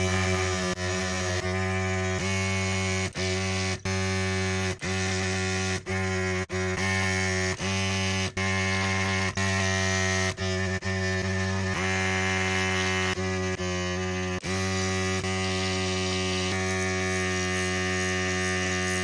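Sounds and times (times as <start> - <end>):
small electric motor buzzing: 0.0 - 19.0.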